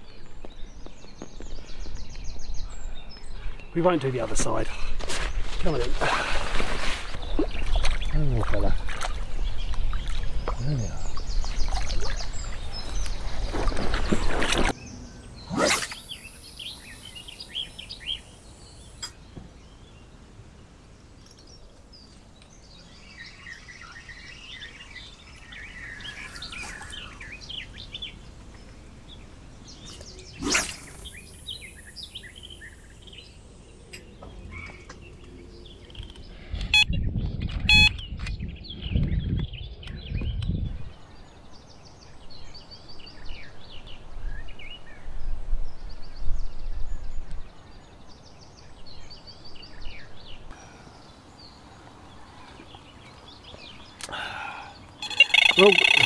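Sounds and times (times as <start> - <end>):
birds singing and chirping: 0.0 - 20.4, 21.0 - 56.0.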